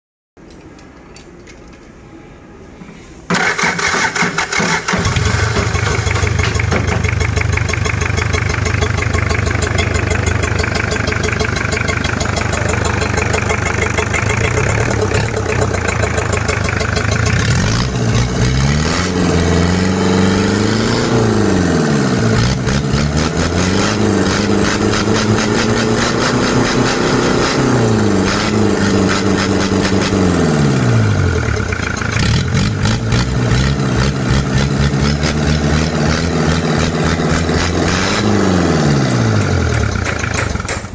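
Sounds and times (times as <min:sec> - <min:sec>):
diesel engine cranking and idling: 0:03.2 - 0:40.9
diesel engine revving: 0:03.3 - 0:40.9.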